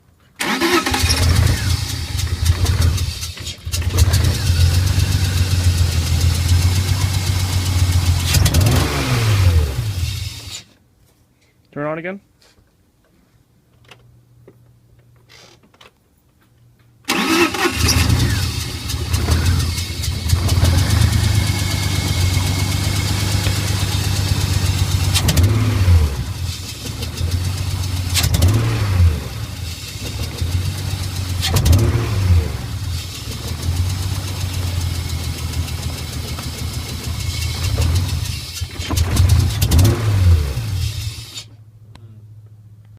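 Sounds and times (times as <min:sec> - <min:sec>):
car engine starting and idling unevenly: 0:00.4 - 0:10.7, 0:17.1 - 0:41.8.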